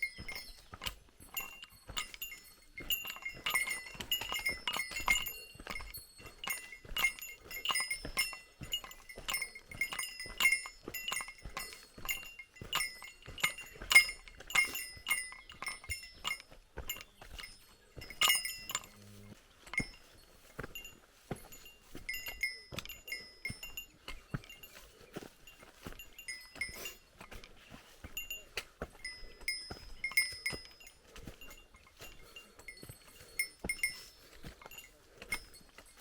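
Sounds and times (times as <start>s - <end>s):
small bell jingling: 0.0s - 36.0s.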